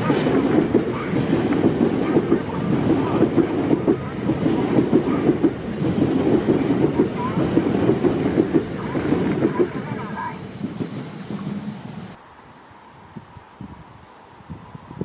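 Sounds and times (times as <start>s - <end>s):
train wheels clattering over track: 0.0s - 12.2s.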